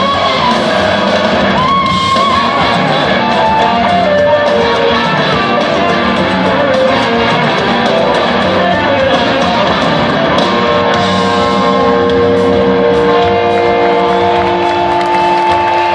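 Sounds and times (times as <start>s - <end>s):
electric guitar playing loudly: 0.0s - 15.9s
live rock band: 0.0s - 15.9s.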